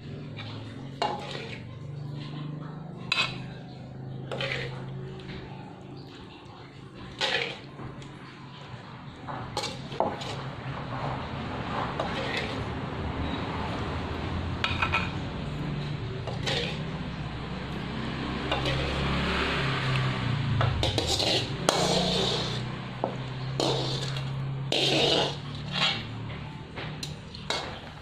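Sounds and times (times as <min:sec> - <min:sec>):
utensils clinking on pots and dishes: 0:00.0 - 0:28.0.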